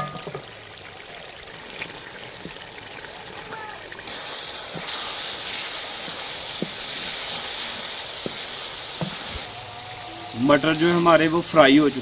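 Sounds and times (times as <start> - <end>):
peas sizzling in hot oil: 0.0 - 12.0.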